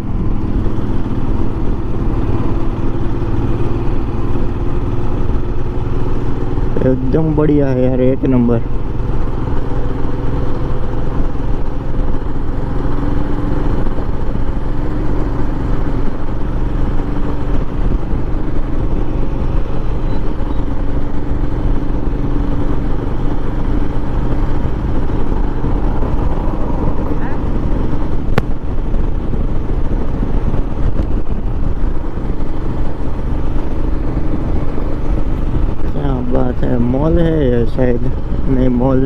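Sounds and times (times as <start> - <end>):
low wind rumble: 0.0 - 39.0
motorcycle engine cruising: 0.0 - 39.0.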